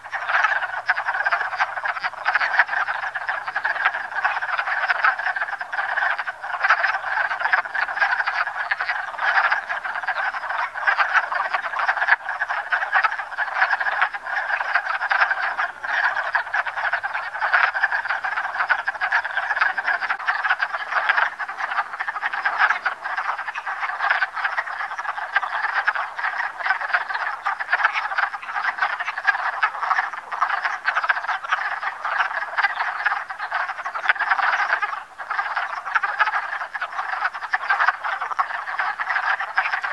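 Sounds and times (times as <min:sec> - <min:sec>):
frogs chorus calling: 0:00.0 - 0:39.9.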